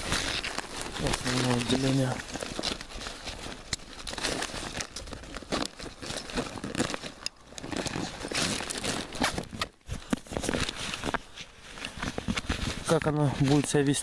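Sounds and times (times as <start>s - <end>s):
backpack lining crinkling: 0.0s - 14.0s.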